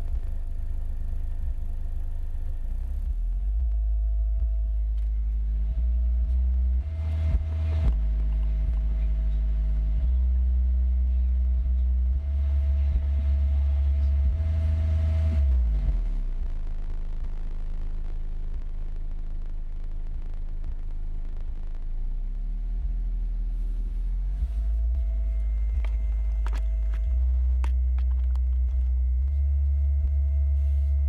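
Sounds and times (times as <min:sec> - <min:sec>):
loud steady bass tone: 0:00.0 - 0:31.0.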